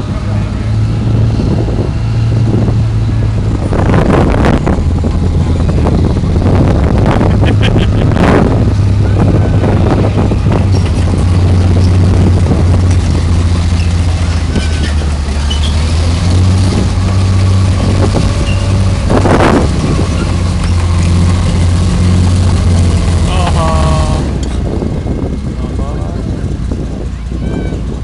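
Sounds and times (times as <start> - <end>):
tank engine humming: 0.0 - 28.0.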